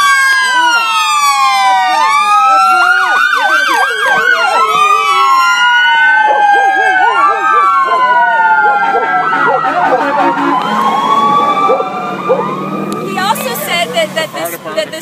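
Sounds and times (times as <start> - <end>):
emergency vehicle sirens wailing: 0.0 - 15.0.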